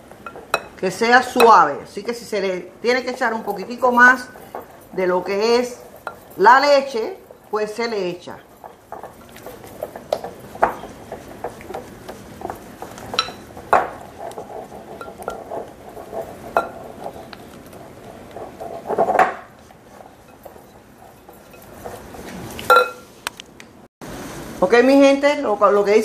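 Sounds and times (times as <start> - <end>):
spatula scraping a mixing bowl: 0.0 - 22.7.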